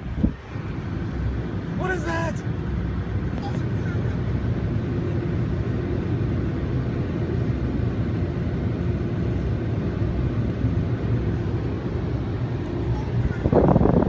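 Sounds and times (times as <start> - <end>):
car wash machinery rumbling: 0.0 - 14.0.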